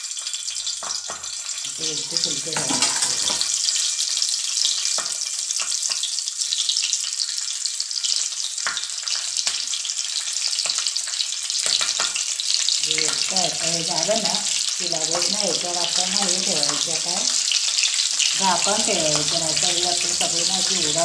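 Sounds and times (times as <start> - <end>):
hot oil sizzling: 0.0 - 21.0.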